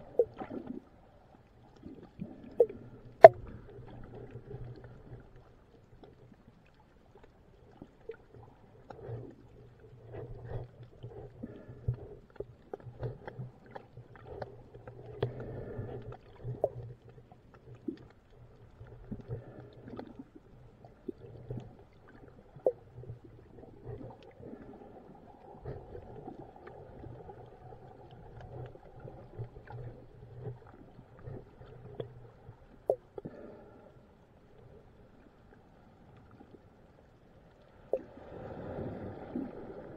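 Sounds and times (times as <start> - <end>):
small underwater clicks and pops: 0.0 - 33.4
underwater rumble of moving water: 0.0 - 39.9.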